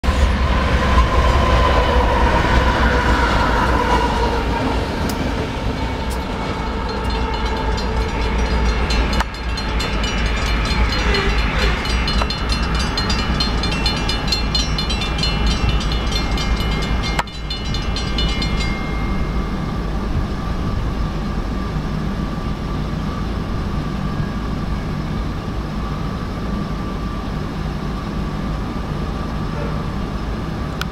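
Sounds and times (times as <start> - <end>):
diesel locomotives passing: 0.0 - 30.9
wheels rumbling over rails: 0.0 - 30.9.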